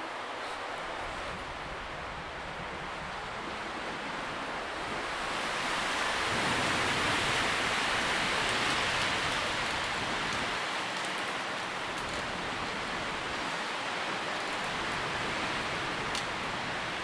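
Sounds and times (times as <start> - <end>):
wind rustling tree leaves: 0.0 - 17.0.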